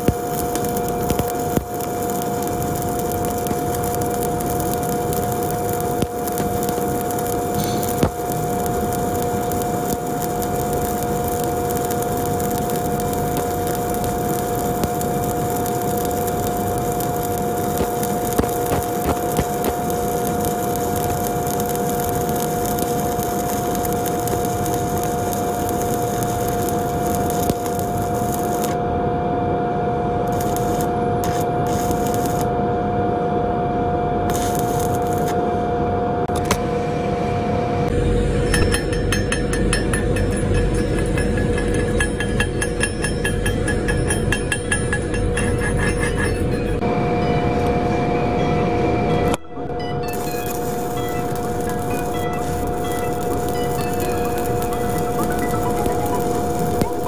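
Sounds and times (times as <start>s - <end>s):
welding arc crackling: 0.0s - 28.8s, 30.2s - 32.5s, 34.3s - 35.4s, 37.9s - 48.4s, 49.2s - 57.0s
two-tone welder hum: 0.0s - 28.9s, 30.2s - 32.6s, 34.2s - 35.4s, 37.9s - 57.0s.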